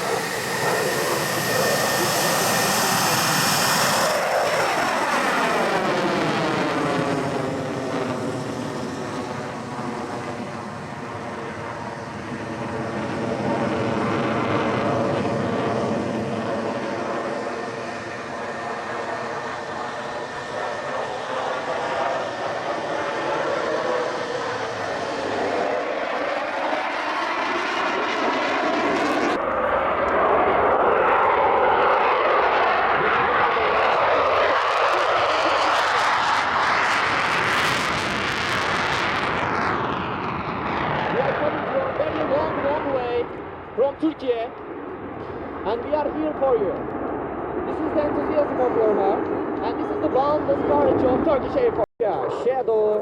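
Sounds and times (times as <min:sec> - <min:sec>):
jet engine rushing past: 0:00.0 - 0:53.0.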